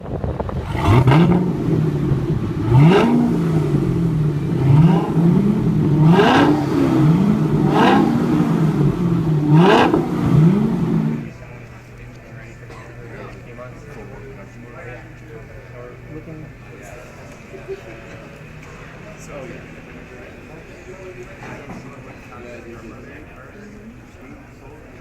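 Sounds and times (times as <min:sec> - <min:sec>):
car engine revving: 0:00.0 - 0:22.6
exhaust cracks: 0:00.0 - 0:22.6.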